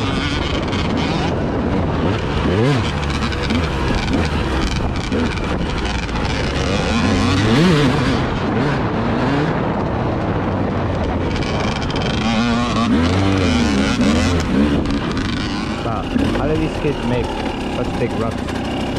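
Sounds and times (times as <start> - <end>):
vehicle engine revving: 0.0 - 18.9
wind noise on microphone: 0.0 - 18.9.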